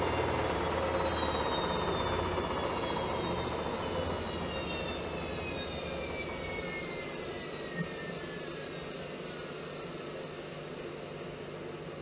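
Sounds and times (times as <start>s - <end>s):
washing machine spinning down: 0.0s - 12.0s.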